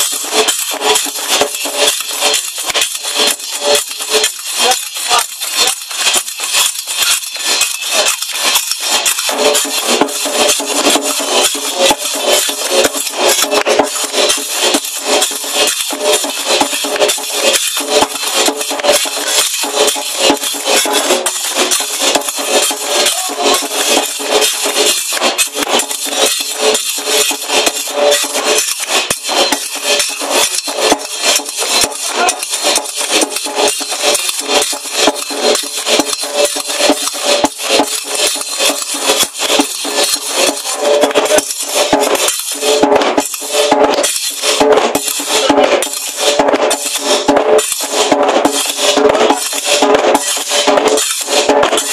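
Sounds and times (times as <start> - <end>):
hand drum: 0.0 - 51.9
hand percussion clacking: 0.0 - 51.9.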